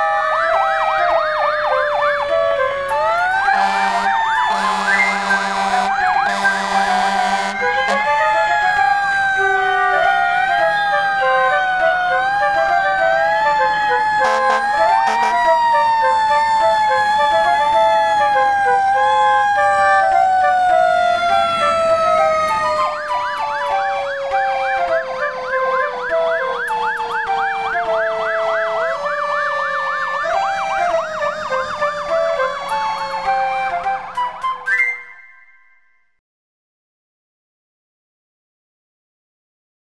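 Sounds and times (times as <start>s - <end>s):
siren wailing and yelping: 0.0s - 35.2s
fire truck siren falling tone: 0.0s - 35.8s.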